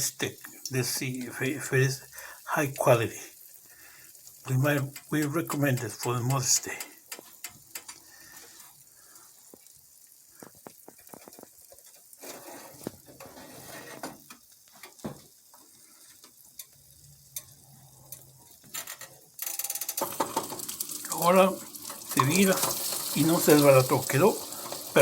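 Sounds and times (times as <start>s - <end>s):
omelette sizzling in a pan: 0.0s - 25.0s.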